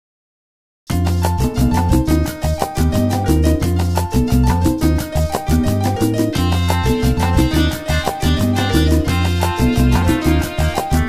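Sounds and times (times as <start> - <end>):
salsa song: 0.9 - 11.0.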